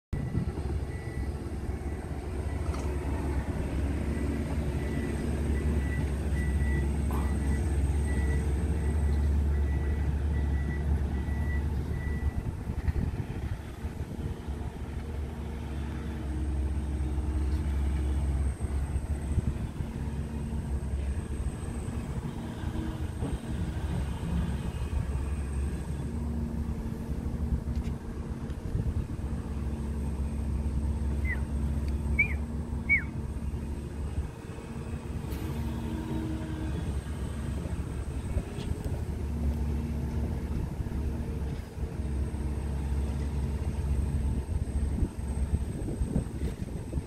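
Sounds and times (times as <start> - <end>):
steady low rumble: 0.2 - 35.8, 36.6 - 47.0.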